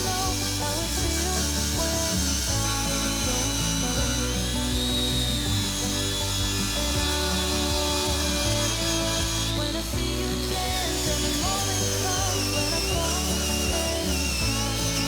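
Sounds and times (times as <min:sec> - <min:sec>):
background music: 0:00.0 - 0:15.0
high-pitched power tool whine: 0:00.0 - 0:15.0.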